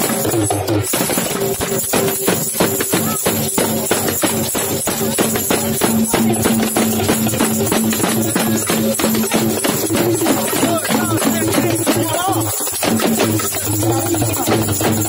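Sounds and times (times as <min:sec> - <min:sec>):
drums struck with mallets: 0:00.0 - 0:15.0
jingling tambourine: 0:00.0 - 0:15.0.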